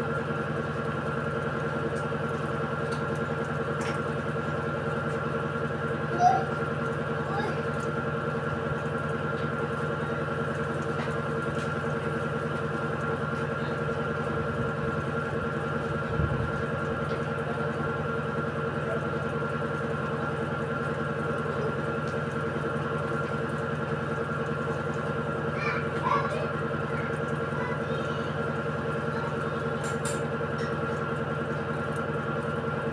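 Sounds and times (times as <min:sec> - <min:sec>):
washing machine humming: 0:00.0 - 0:32.9.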